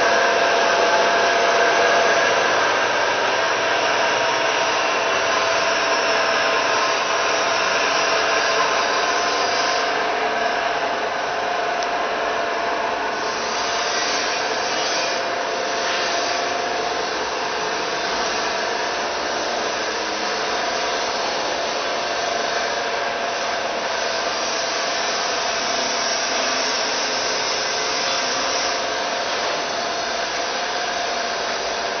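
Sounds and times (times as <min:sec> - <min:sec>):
mixer motor whirring hum: 0:00.0 - 0:32.0.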